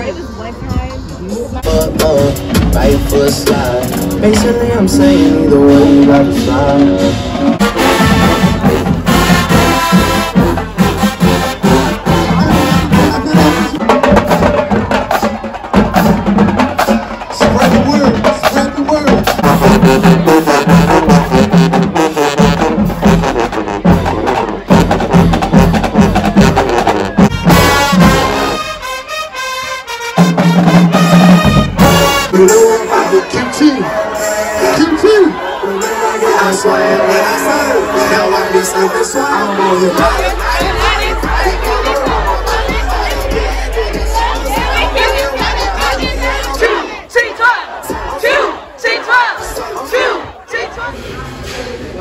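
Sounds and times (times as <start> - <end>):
marching band brass: 0.0 - 52.0
drumline beat: 0.1 - 50.8.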